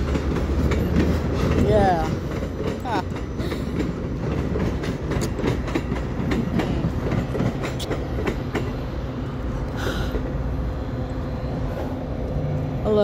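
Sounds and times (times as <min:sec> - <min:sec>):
train wheels clicking over rail joints: 0:00.0 - 0:10.6
train rumble: 0:00.0 - 0:13.0.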